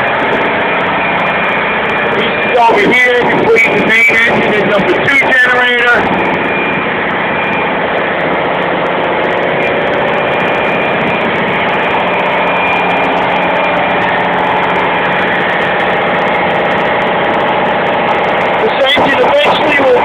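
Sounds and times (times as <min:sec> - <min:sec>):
diesel generator engine droning: 0:00.0 - 0:20.0.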